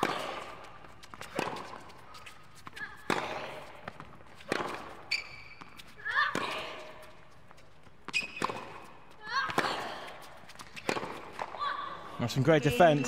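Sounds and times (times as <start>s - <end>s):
racket striking tennis ball: 0.0s - 7.0s, 8.0s - 11.6s
tennis ball bouncing: 0.0s - 11.8s.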